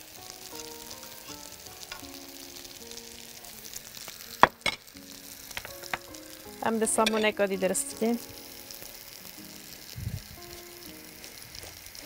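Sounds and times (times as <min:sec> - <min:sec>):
onions sizzling in frying pan: 0:00.0 - 0:12.0
quiet background music: 0:00.0 - 0:12.0.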